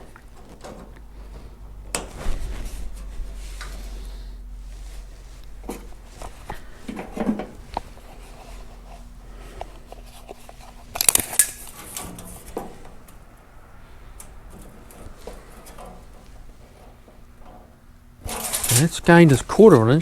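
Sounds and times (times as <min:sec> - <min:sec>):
sheet metal clattering: 0:00.0 - 0:20.0.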